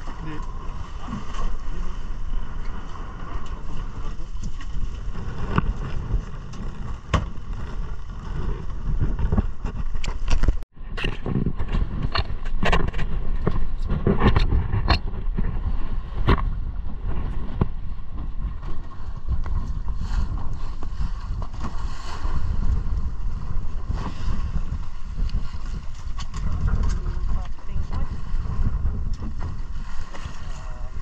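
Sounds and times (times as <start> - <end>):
rush of wind and water: 0.0 - 31.0.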